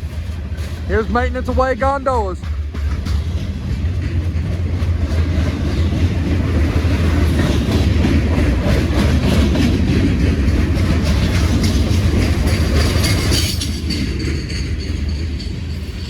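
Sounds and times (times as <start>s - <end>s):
freight train rumbling past: 0.0s - 16.0s
wheels clicking over rail joints: 0.0s - 16.0s.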